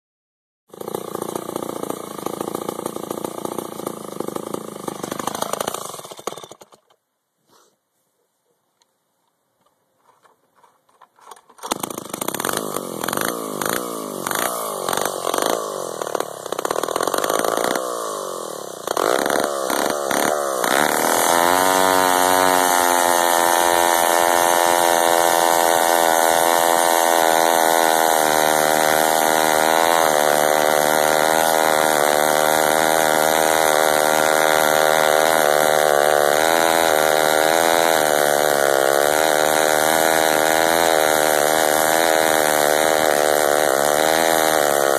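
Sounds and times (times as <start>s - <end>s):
chainsaw running: 0.7s - 7.0s, 10.2s - 44.9s
chainsaw cutting log: 0.7s - 7.7s, 10.0s - 44.9s.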